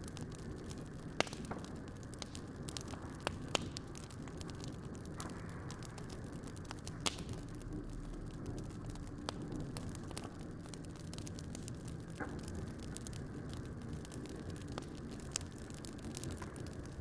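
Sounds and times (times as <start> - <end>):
charcoal crackling and popping: 0.0 - 17.0
low steady rumble: 0.0 - 17.0.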